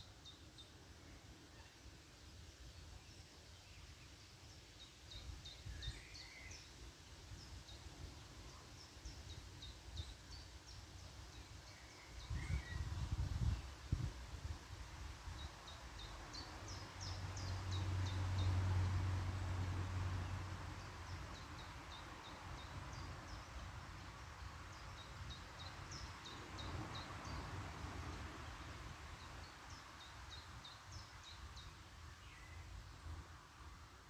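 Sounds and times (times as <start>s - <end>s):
songbird chirping: 0.0s - 14.1s, 15.0s - 34.0s.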